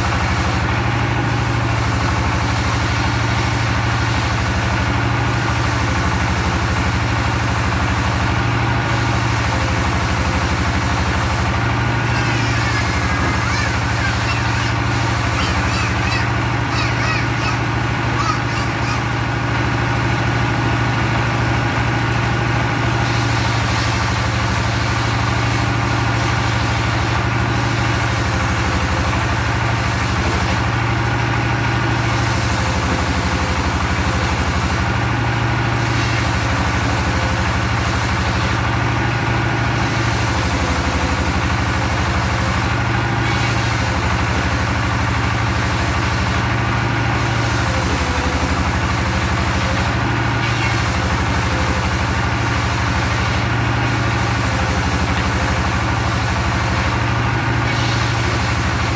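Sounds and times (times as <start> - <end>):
saw blade hiss: 0.0 - 19.2, 22.7 - 58.9
circular log saw engine drone: 0.0 - 58.9.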